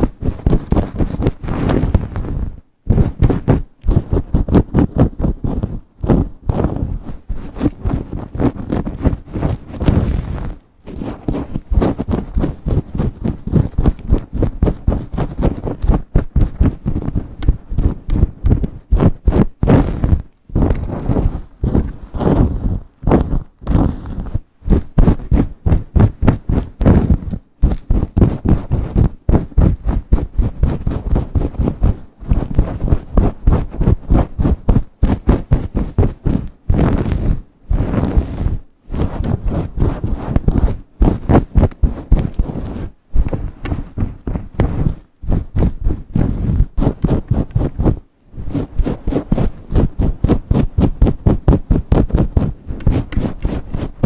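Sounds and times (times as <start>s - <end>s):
nails scratching through hair: 0.0s - 54.0s.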